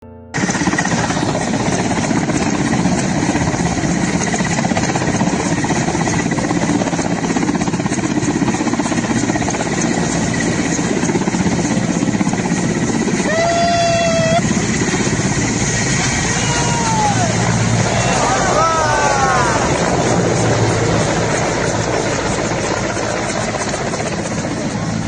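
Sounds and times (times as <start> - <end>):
helicopter rotor and engine: 0.0 - 25.0.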